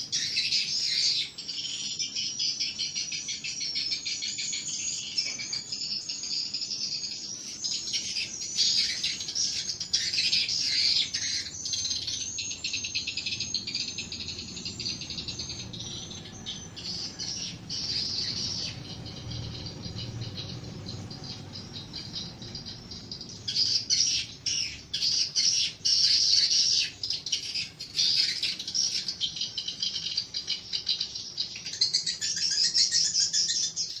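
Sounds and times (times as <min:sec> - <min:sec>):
swiftlets twittering: 0:00.1 - 0:33.2.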